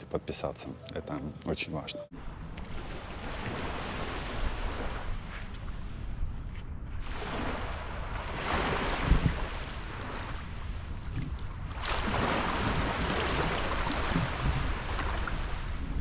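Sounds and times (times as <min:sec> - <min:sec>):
small waves washing on shore: 0:02.2 - 0:16.0
wind rumble on microphone: 0:02.2 - 0:16.0.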